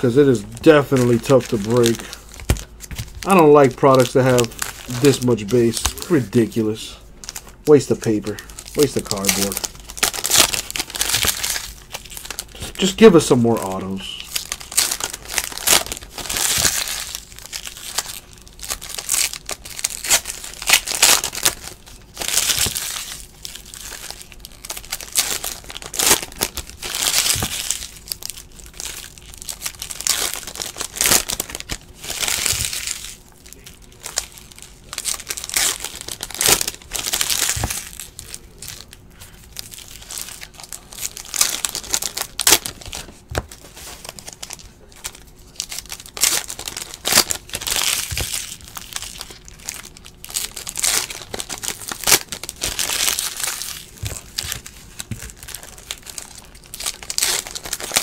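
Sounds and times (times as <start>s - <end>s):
foil wrappers tearing and crinkling: 0.0s - 58.0s.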